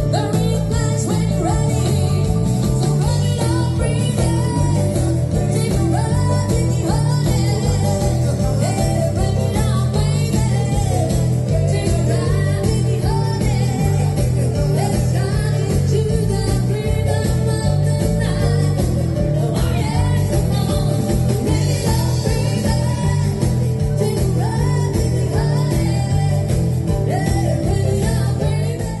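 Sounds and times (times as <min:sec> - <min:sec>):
bass and drum beat: 0:00.0 - 0:29.0
guitar: 0:00.0 - 0:29.0
person singing: 0:00.0 - 0:29.0.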